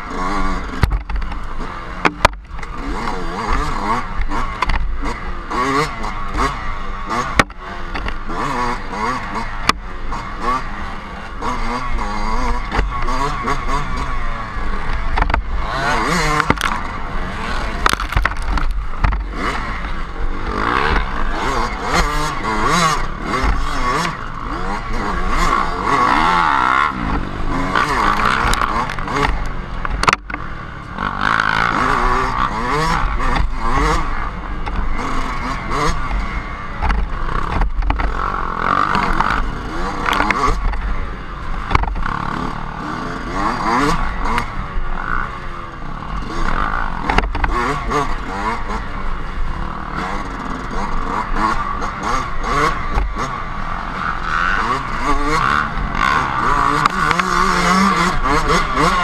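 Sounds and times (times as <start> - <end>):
dirt bike engine revving: 0.0 - 59.0
knocks and scrapes from bike: 0.0 - 59.0.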